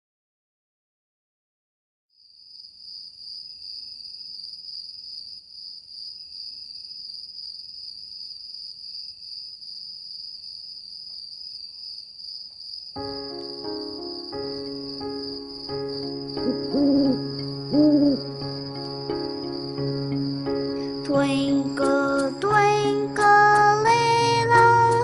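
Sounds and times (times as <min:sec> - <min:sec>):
high-pitched cricket chirring: 0:02.4 - 0:25.0.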